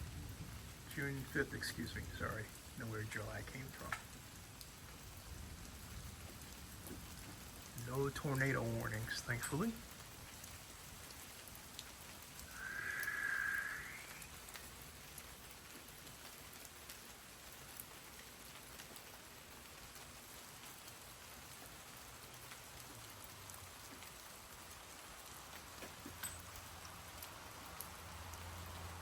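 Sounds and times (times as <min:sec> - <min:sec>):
light steady rain: 0:00.0 - 0:29.0.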